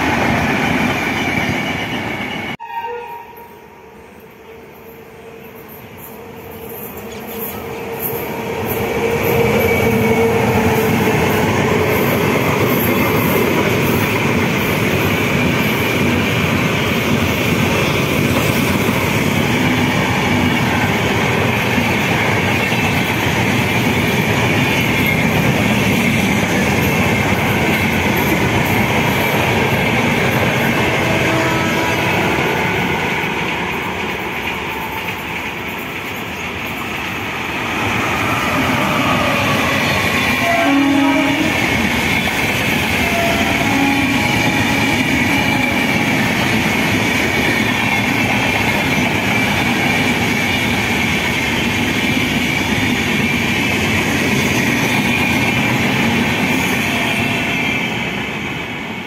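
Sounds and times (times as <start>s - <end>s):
train wheels rumbling on rails: 0.0s - 2.6s, 4.0s - 59.0s.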